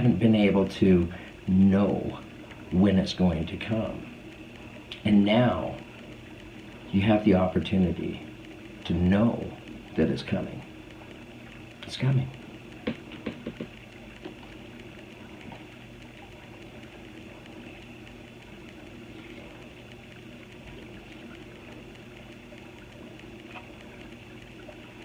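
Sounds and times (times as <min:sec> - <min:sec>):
faint tick: 0:00.0 - 0:25.0
quiet background hum: 0:00.0 - 0:25.0.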